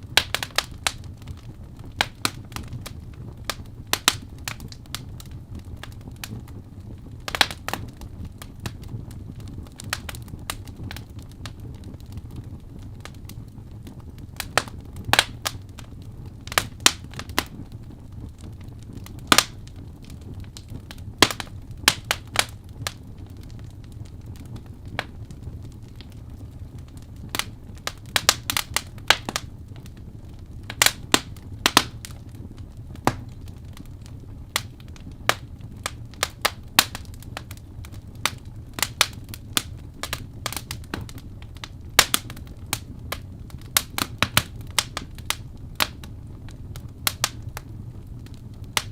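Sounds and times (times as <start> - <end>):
low rumble of flame: 0.0 - 48.9
wood fire crackling and popping: 0.0 - 48.9.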